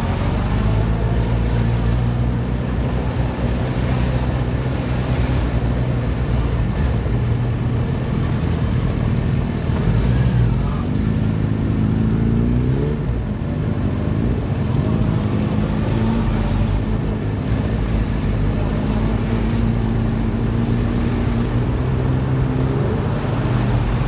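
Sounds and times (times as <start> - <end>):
motorcycle engine accelerating: 0.0 - 24.0
wind and road noise: 0.0 - 24.0.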